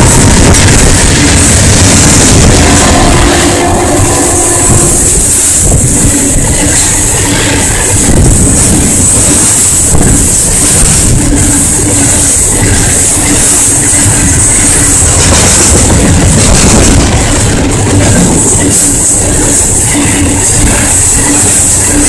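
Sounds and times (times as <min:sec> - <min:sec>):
freight train wheels clattering: 0:00.0 - 0:22.0.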